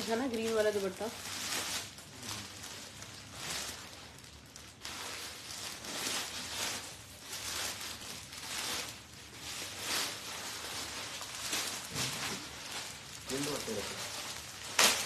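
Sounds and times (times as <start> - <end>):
cloth rustling: 0.0 - 15.0.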